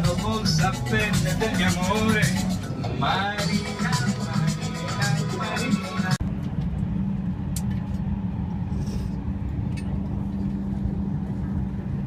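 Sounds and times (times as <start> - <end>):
vehicle interior hum: 0.0 - 12.0.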